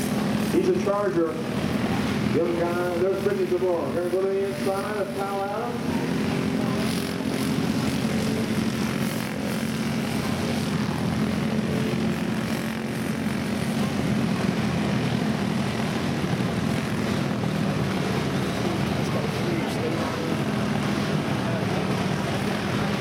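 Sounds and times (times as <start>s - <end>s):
racing kart engines buzzing: 0.0s - 23.0s.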